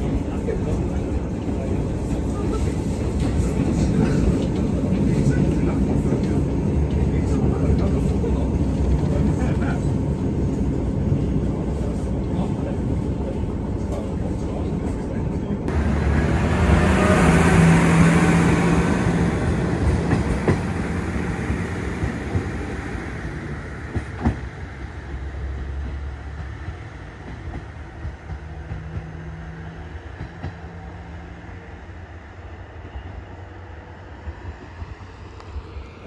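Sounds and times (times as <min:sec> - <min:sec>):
train running: 0:00.0 - 0:36.0.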